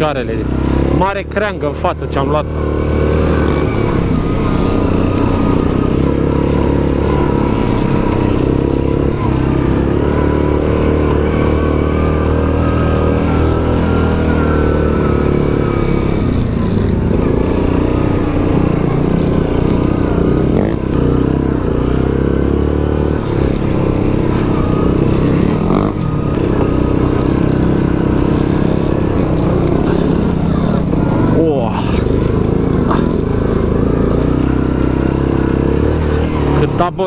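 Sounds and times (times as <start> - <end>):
atv engine under load: 0.0 - 37.0.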